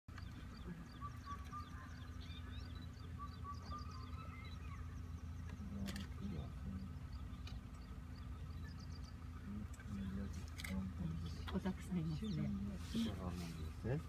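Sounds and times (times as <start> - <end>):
low steady hum: 0.1 - 14.0
wild birds chirping and whistling: 0.1 - 14.0.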